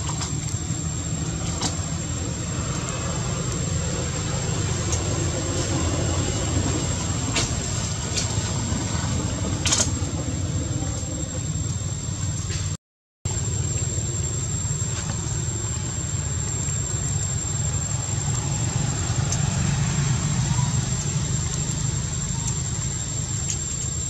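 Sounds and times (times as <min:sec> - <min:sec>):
engine idling: 0:00.0 - 0:24.0
thin high whine: 0:00.0 - 0:24.0.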